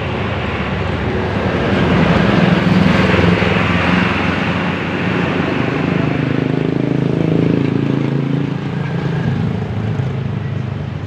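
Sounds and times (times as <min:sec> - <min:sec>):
bus driving past: 0:00.0 - 0:11.0.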